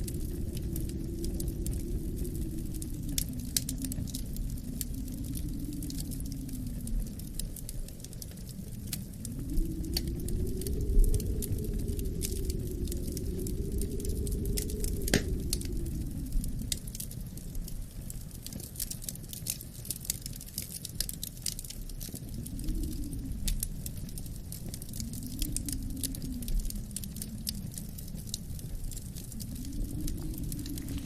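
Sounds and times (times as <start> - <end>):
wind howling in gusts: 0.0 - 31.0
wood fire crackling: 0.0 - 31.0.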